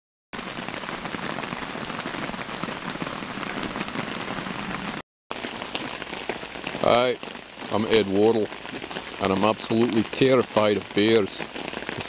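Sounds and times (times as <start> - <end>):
rain on a tarp: 0.4 - 12.0.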